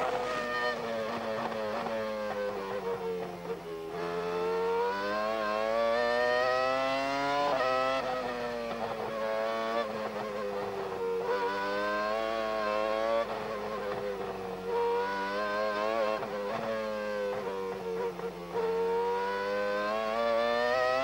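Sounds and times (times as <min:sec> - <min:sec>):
race car engine revving: 0:00.0 - 0:03.3, 0:04.0 - 0:21.0.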